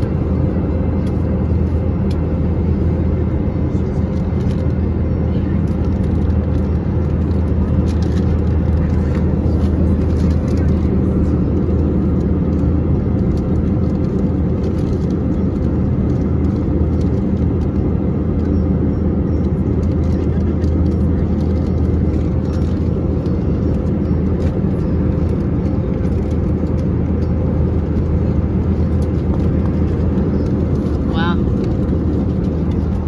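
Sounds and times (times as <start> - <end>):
constant low hum: 0.0 - 33.0
jet engine drone in cabin: 0.0 - 33.0.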